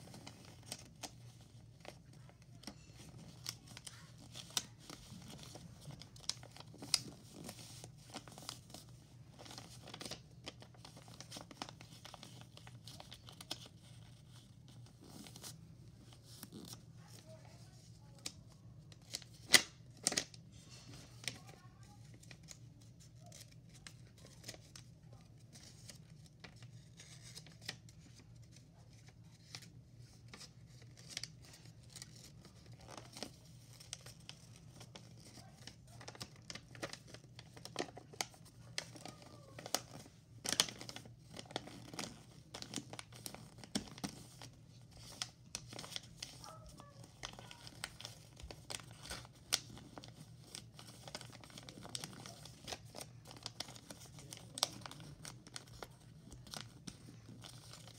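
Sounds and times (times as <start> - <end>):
paper rustling and crinkling: 0.0 - 57.9.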